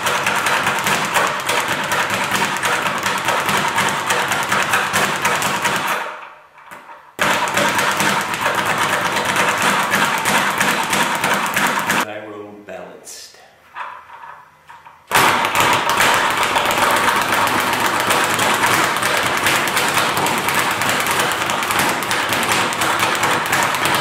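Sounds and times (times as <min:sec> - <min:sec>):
speed bag rattling: 0:00.0 - 0:06.1, 0:07.2 - 0:12.0, 0:15.3 - 0:24.0.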